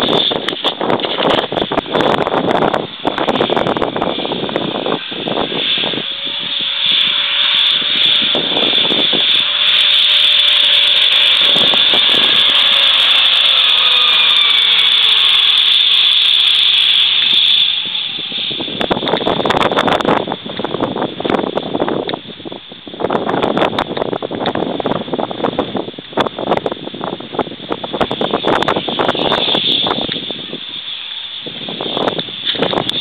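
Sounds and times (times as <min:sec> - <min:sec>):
diesel engine pulling hard: 0:00.0 - 0:33.0
gusty crackle: 0:00.0 - 0:33.0
high whine: 0:00.0 - 0:33.0.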